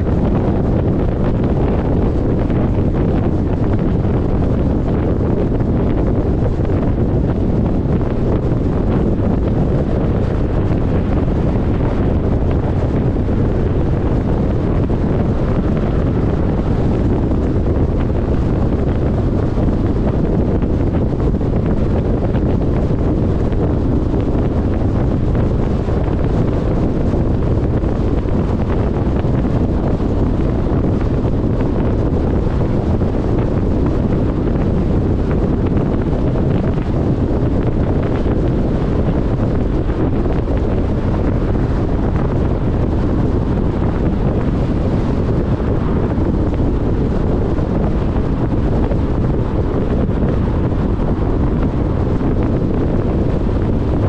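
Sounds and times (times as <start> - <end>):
car road noise at highway speed: 0.0 - 54.0
wind buffeting microphone: 0.0 - 54.0.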